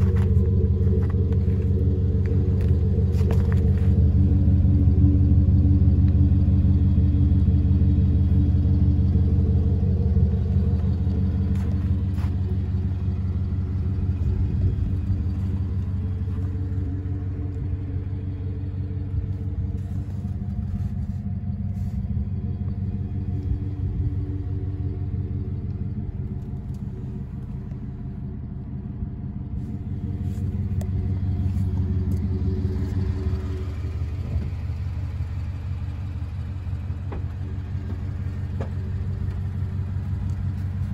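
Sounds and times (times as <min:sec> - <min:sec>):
pickup engine idling: 0:00.0 - 0:40.9.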